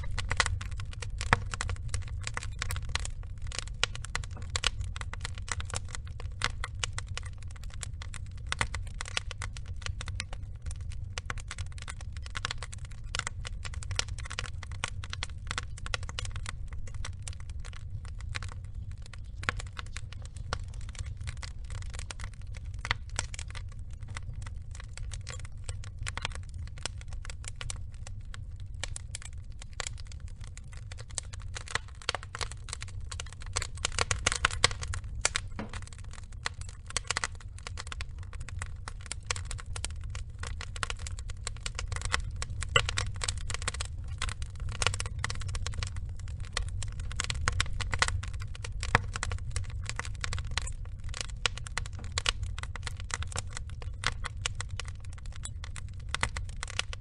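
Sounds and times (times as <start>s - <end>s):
fire crackling and popping: 0.0s - 57.0s
low roar of flames: 0.0s - 57.0s.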